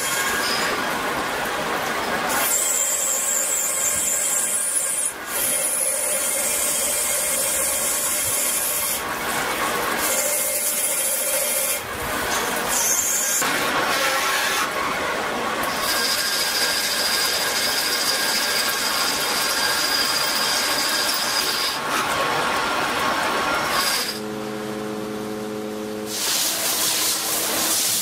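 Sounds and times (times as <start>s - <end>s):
metal lathe cutting steel: 0.0s - 24.2s.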